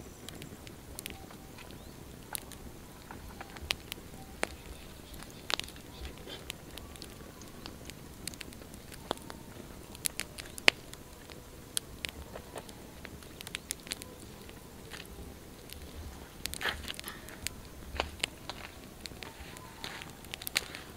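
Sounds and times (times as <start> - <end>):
campfire crackling and popping: 0.0 - 20.9.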